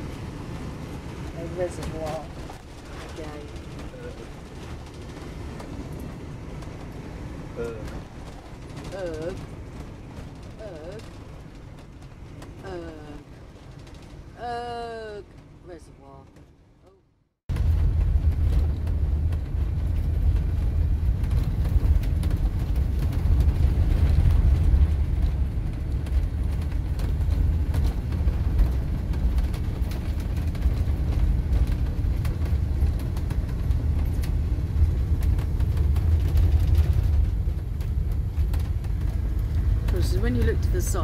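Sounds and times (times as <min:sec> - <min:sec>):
motorhome engine and road rumble: 0:00.0 - 0:41.0.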